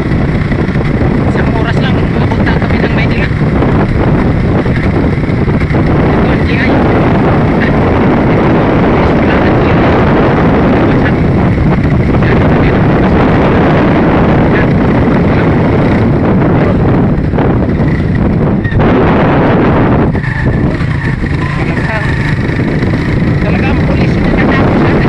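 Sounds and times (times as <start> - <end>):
vehicle road noise: 0.0 - 25.0
wind rushing on microphone: 0.0 - 25.0.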